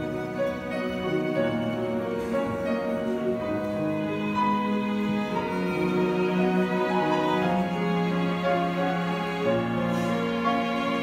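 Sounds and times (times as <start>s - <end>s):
violin-led instrumental music: 0.0s - 11.0s.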